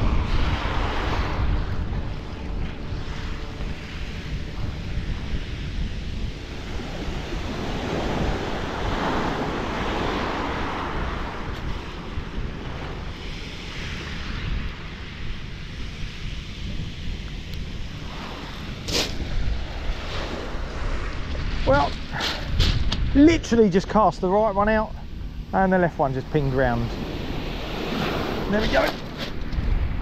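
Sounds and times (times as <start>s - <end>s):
waves washing up shingle: 0.0s - 30.0s
wind buffeting microphone: 0.0s - 30.0s.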